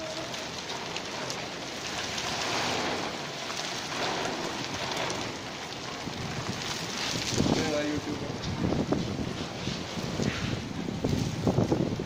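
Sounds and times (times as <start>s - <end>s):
rain on a flat roof: 0.0s - 12.0s.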